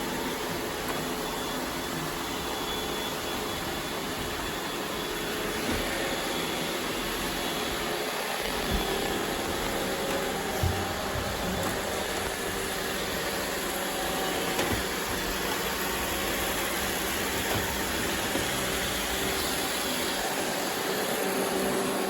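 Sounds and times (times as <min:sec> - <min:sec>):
robot vacuum running: 0:00.2 - 0:22.0.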